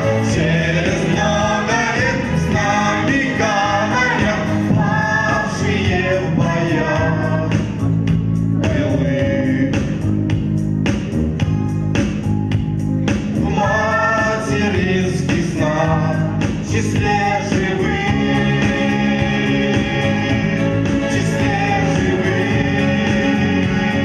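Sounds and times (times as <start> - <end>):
instrumental backing: 0.0 - 24.0.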